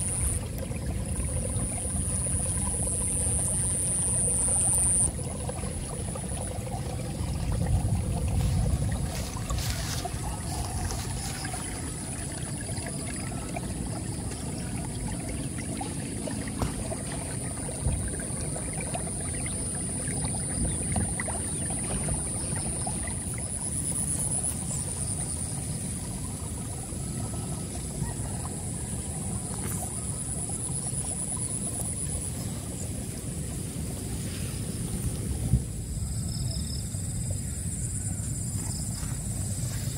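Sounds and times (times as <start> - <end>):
crickets trilling: 0.0 - 39.9
stream trickling over stones: 0.0 - 39.9.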